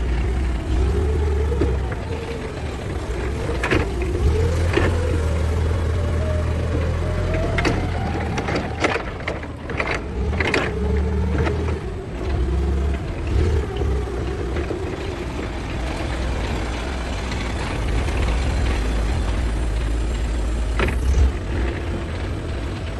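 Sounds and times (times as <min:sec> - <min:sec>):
forklift engine running: 0:00.0 - 0:22.9.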